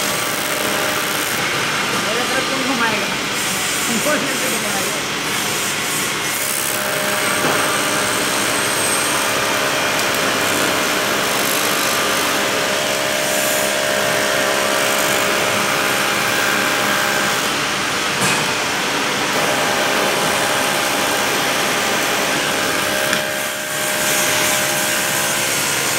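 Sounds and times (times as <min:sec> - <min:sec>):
welding arc hissing and buzzing: 0:00.0 - 0:25.9.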